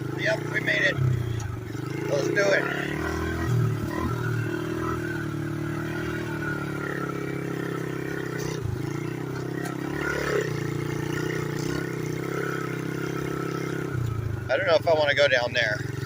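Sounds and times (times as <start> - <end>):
pit bike engine running: 0.0 - 16.0.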